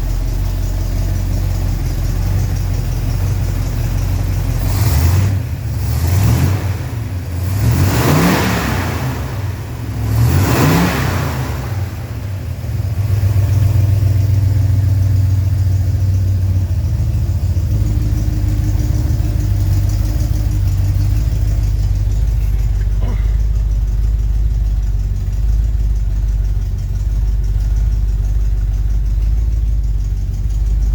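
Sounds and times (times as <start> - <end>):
car engine revving and idling: 0.0 - 30.9.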